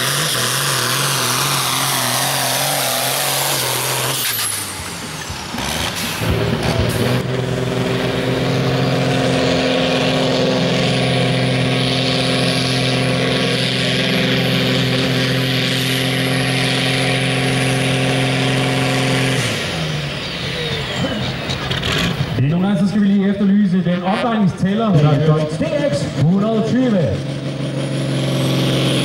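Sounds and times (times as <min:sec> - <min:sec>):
tractor engine at high revs: 0:00.0 - 0:29.0.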